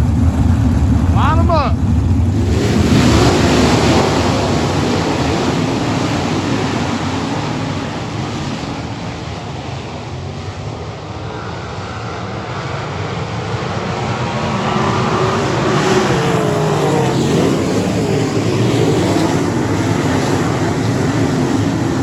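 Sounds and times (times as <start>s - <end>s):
race car engines roaring: 0.0s - 22.0s.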